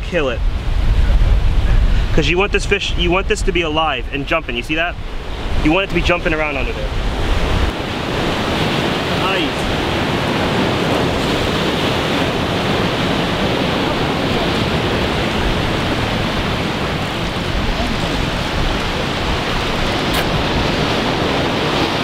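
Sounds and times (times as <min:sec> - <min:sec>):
ocean surf: 0:00.0 - 0:22.0
wind blowing across microphone: 0:00.0 - 0:22.0.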